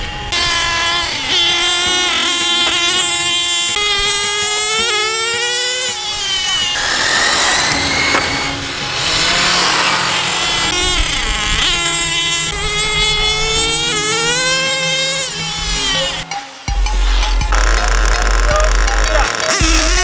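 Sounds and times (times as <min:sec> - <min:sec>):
radio-controlled car motors revving: 0:00.0 - 0:16.2, 0:17.4 - 0:20.0.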